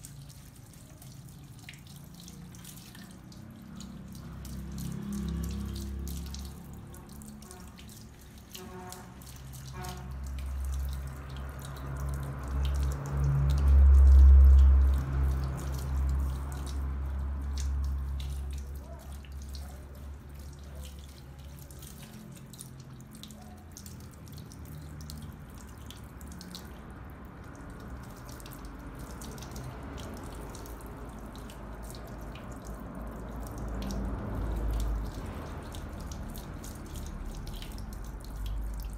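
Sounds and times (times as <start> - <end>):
water spraying and splashing: 0.0 - 38.9.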